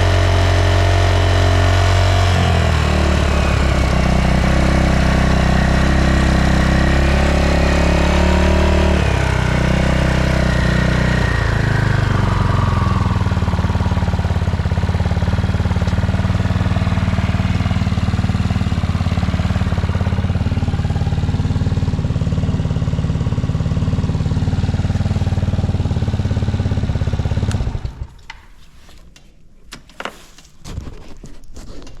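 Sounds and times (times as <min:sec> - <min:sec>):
scooter engine idling: 0:00.0 - 0:28.3.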